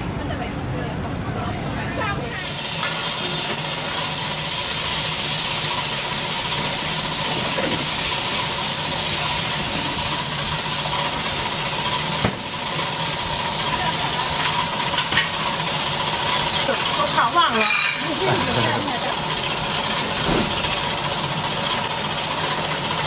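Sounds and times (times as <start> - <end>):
batter hissing on griddle: 2.2 - 23.0.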